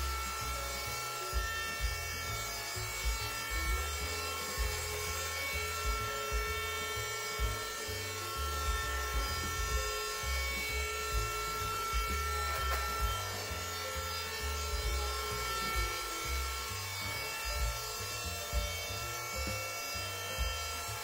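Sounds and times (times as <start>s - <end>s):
robot vacuum motor whine: 0.0s - 21.0s.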